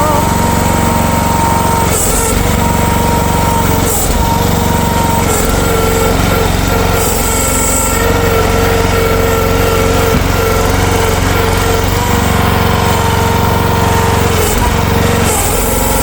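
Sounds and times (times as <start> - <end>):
excavator engine running: 0.0 - 16.0
high steady whine: 0.0 - 16.0.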